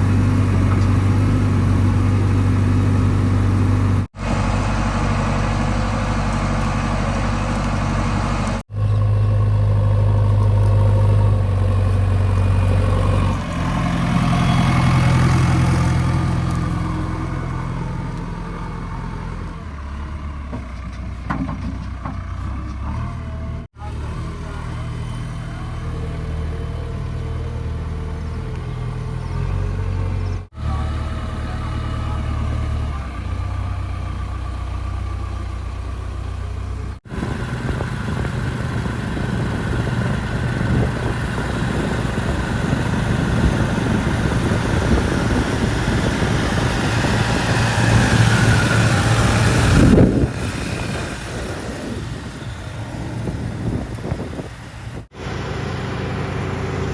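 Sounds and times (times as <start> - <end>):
diesel engine running and revving: 0.0 - 56.9.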